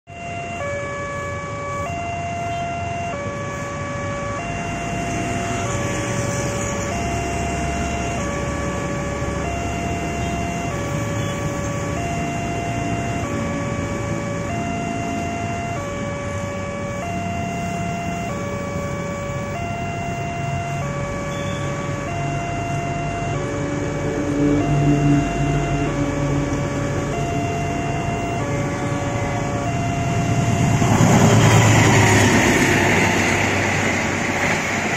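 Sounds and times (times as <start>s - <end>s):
electronic two-tone crossing alarm: 0.1s - 33.5s.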